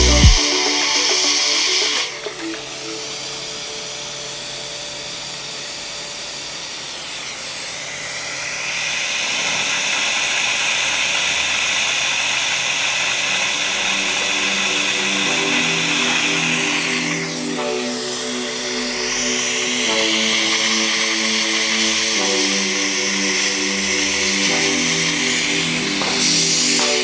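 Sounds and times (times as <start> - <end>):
dental drill whining: 0.0 - 27.0.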